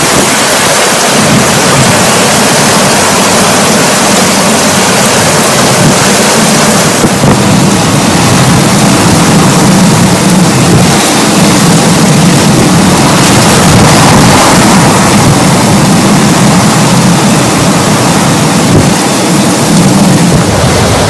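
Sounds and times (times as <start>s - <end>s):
heavy rain: 0.0s - 21.0s
hurricane wind buffeting microphone: 0.0s - 21.0s.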